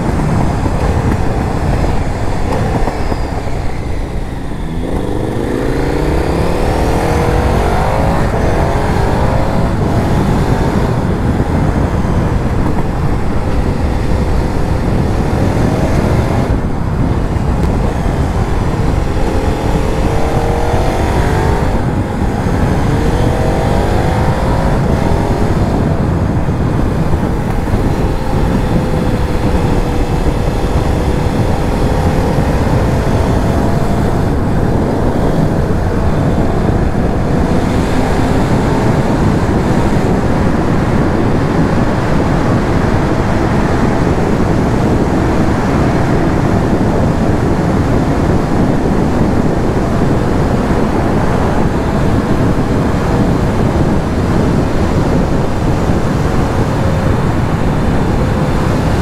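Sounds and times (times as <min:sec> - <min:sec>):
motorcycle engine accelerating: 0:00.0 - 0:59.0
wind and road noise: 0:00.0 - 0:59.0.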